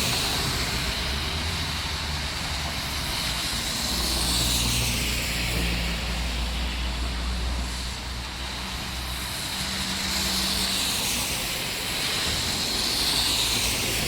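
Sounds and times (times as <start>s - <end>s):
low traffic rumble: 0.0s - 14.0s
rain hiss: 0.0s - 14.0s.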